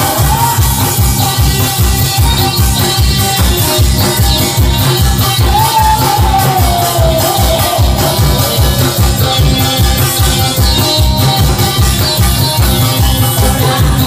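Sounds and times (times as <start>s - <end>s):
barrel drum beat: 0.0s - 14.0s.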